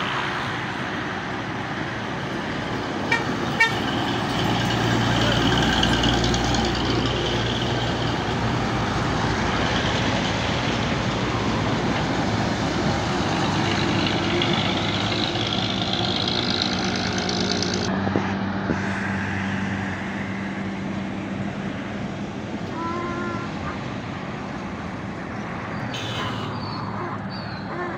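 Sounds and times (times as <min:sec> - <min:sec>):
trucks driving past: 0:00.0 - 0:27.9
tyre and road noise: 0:00.0 - 0:27.9.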